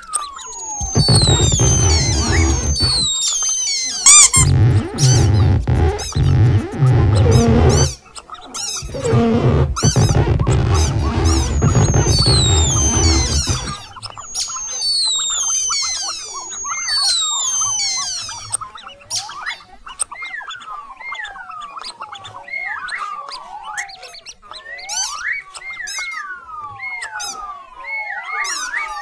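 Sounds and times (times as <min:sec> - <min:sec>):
cartoon mouse squeaks: 0:00.0 - 0:27.6.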